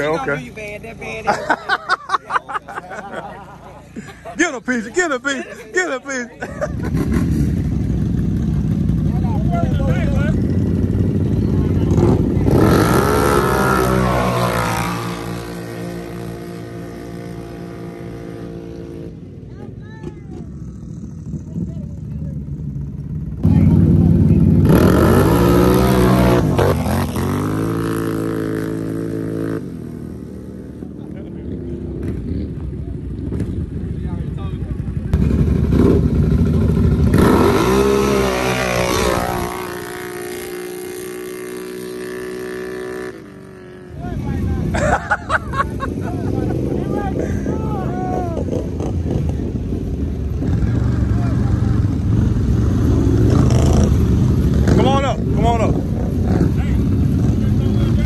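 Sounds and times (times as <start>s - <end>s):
atv engines revving: 0.0s - 58.0s.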